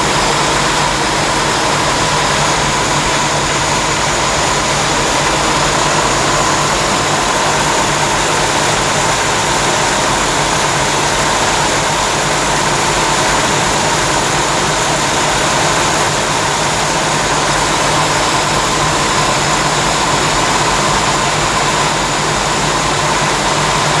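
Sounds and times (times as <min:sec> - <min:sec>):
car engine running steadily: 0:00.0 - 0:24.0.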